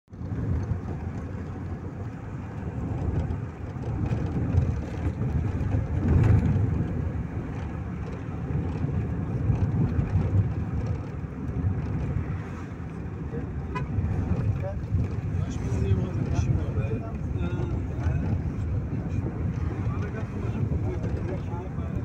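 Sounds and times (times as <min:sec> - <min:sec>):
car road and engine noise: 0:00.1 - 0:22.0.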